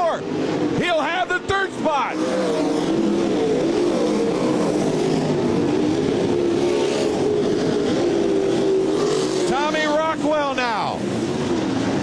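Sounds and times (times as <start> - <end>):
race car engines at high revs: 0.0 - 12.0.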